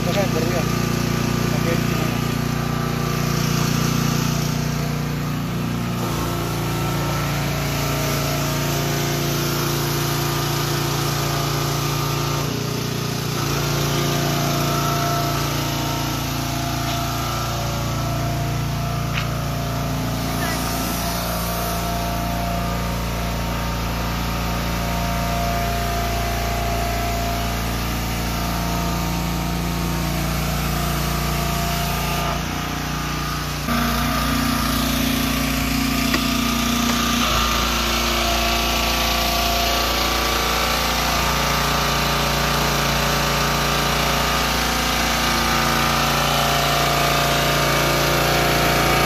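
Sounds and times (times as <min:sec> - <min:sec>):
pressure washer engine running: 0:00.0 - 0:49.0.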